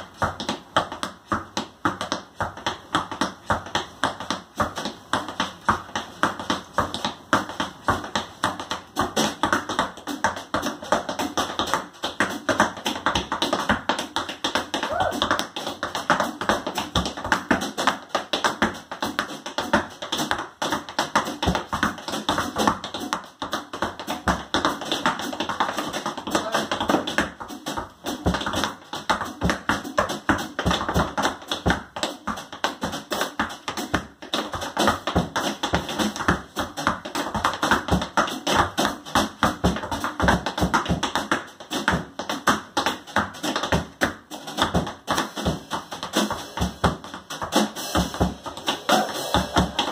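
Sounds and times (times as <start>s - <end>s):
tap shoes on wooden board: 0.0s - 49.9s
drum kit: 4.6s - 49.9s.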